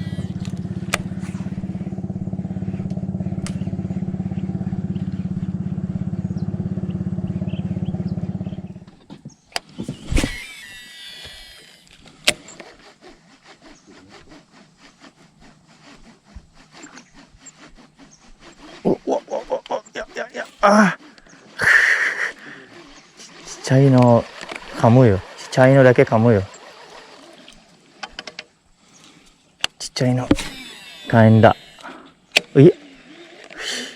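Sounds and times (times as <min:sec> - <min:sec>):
small engine running: 0:00.0 - 0:33.9.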